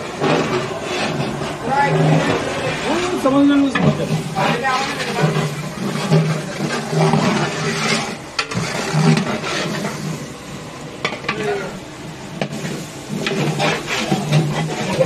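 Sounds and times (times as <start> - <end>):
metal knocks and scrapes: 0.0 - 10.3, 12.4 - 15.0
food sizzling in oil: 0.0 - 15.0.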